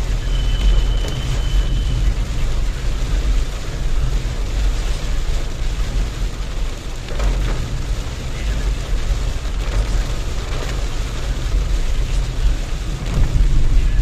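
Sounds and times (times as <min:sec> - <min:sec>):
rain and tyres on wet road: 0:00.0 - 0:14.0
vehicle road rumble: 0:00.0 - 0:14.0.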